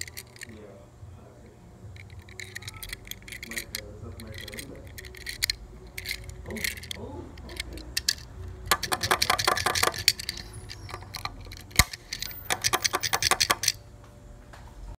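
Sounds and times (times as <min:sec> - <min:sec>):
toy car metallic clicks: 0:00.0 - 0:00.6, 0:02.0 - 0:13.8.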